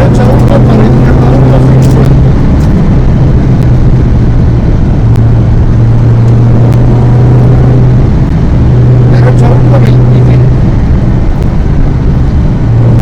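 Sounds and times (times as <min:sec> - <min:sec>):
car engine from inside: 0:00.0 - 0:13.0.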